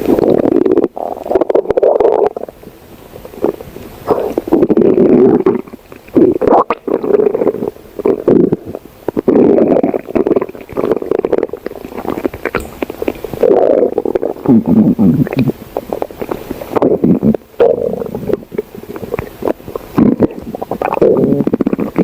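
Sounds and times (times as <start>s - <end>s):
stomach growling: 0.0s - 2.6s, 3.2s - 22.0s.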